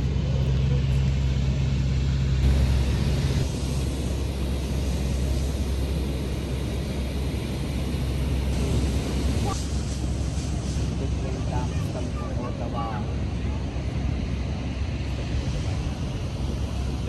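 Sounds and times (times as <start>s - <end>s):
boat engine drone: 0.0s - 17.0s
wind and water hiss: 0.0s - 17.0s.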